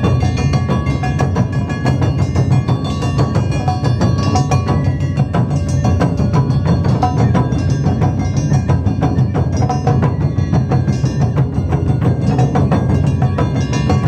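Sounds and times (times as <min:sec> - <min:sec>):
fast drumming: 0:00.0 - 0:14.0
heavy low drum: 0:00.0 - 0:14.0.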